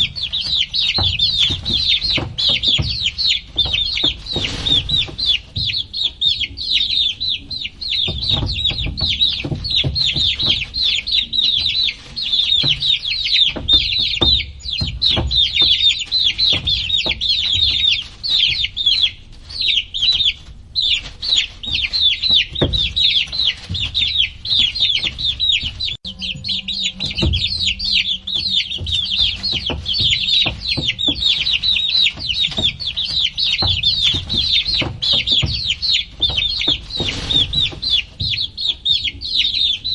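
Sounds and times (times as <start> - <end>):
low knocks and rumble: 0.0 - 19.5, 20.5 - 39.9
baby chicks peeping: 0.0 - 39.9.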